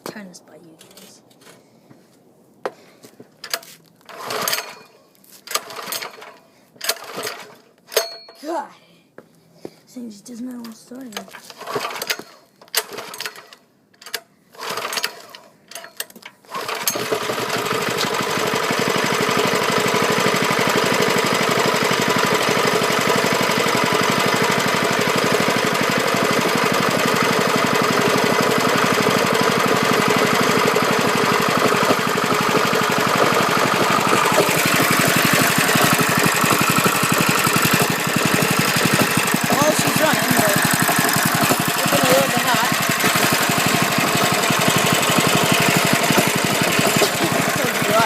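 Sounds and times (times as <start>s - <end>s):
small engine starting attempts: 3.4s - 8.3s, 11.0s - 48.0s
small engine running: 4.1s - 4.9s, 5.5s - 7.6s, 11.2s - 13.6s, 14.5s - 48.0s.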